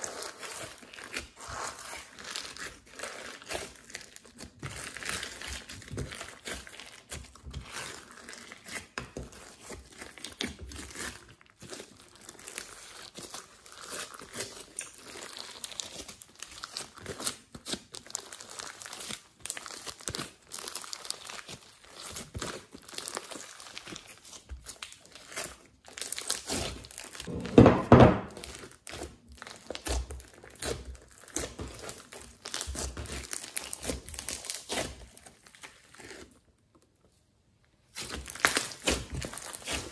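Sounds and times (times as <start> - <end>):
slime squishing and popping: 0.0 - 36.3, 37.9 - 39.9.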